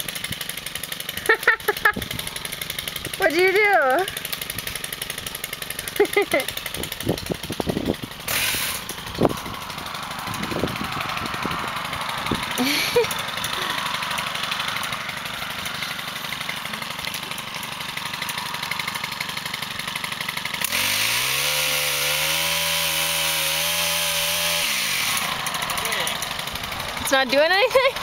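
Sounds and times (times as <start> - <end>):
small petrol engine idling and revving: 0.0 - 28.0.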